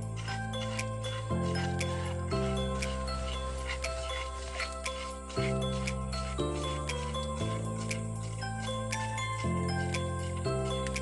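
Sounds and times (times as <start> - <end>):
tinkly instrumental music: 0.0 - 11.0.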